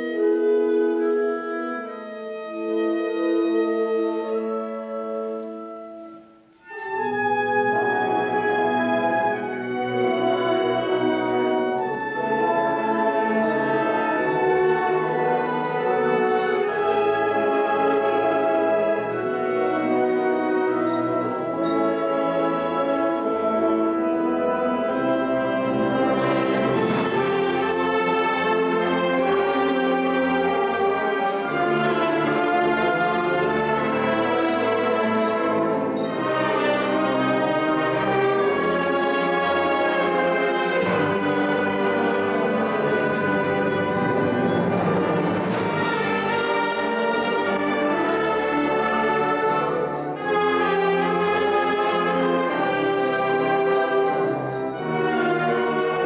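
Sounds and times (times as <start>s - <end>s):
concert wind band playing: 0.0s - 56.0s.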